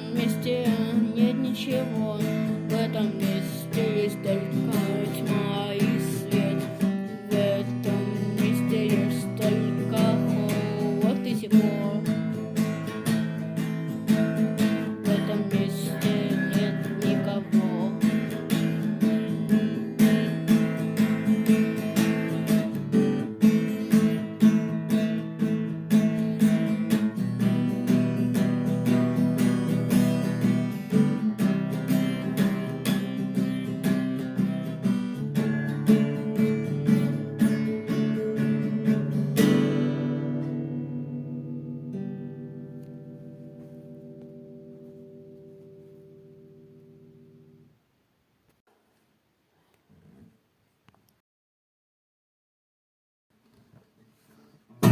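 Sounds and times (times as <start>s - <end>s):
strummed guitar chords: 0.0s - 47.6s
lead guitar melody: 0.0s - 47.7s.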